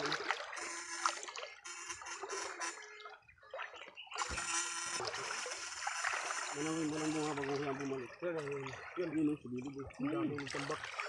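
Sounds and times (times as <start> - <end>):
water splashing around wading legs: 0.0 - 11.0.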